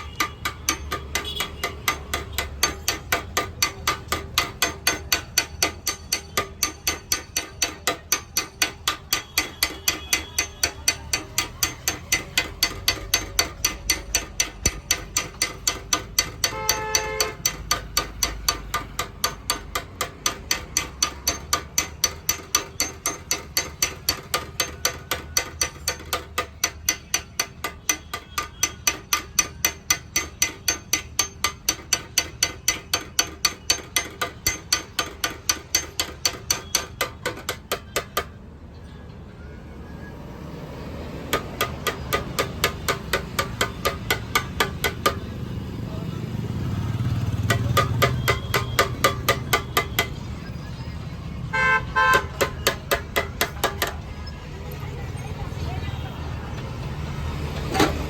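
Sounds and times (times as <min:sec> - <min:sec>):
hammer tapping on metal: 0:00.0 - 0:38.4, 0:40.6 - 0:58.0.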